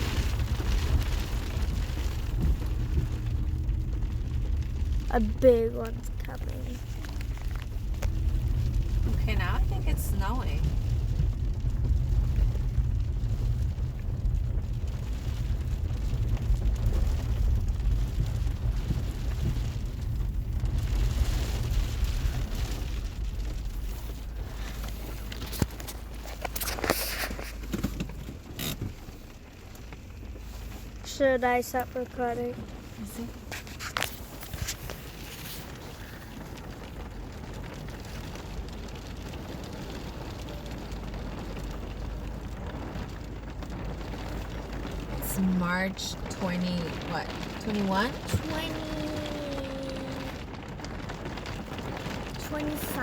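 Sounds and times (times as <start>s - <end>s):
hail and snow falling: 0.0s - 53.0s
low rumble: 0.0s - 53.0s.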